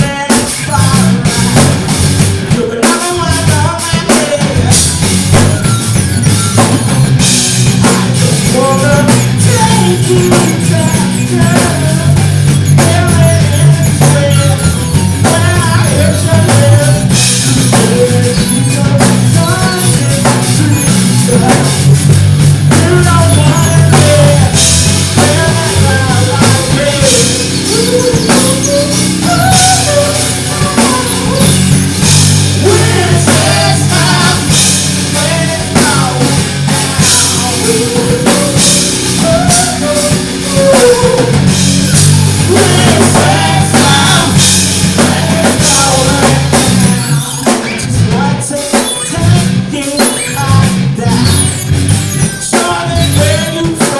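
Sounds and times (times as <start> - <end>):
person singing: 0.0 - 5.5, 7.7 - 22.0, 22.7 - 53.9
bass line: 0.0 - 53.9
drum kit: 0.0 - 53.9
electric guitar: 0.0 - 53.9.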